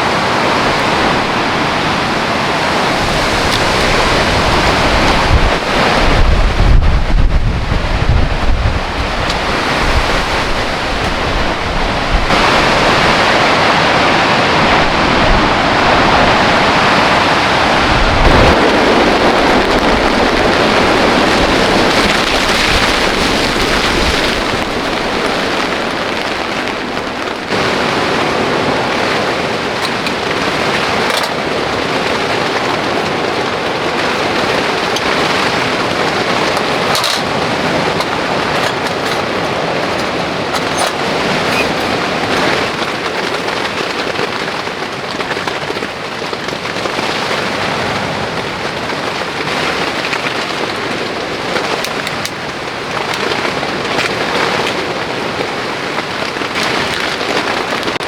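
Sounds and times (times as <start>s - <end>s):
heavy rain hissing: 0.0s - 58.0s
sharp rain taps: 0.0s - 58.0s.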